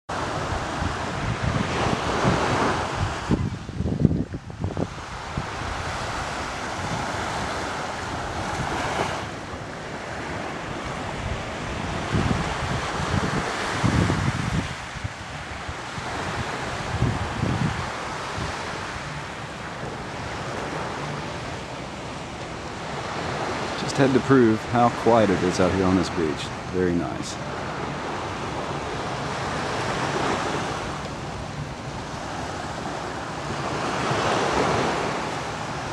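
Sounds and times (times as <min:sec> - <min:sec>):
small waves breaking on beach: 0:00.1 - 0:35.9
wind buffeting microphone: 0:00.1 - 0:35.9.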